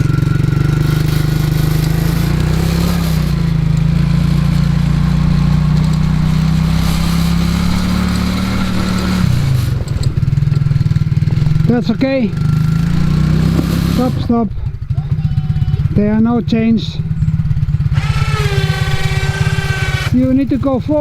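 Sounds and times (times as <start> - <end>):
quad bike engine revving: 0.0 - 21.0.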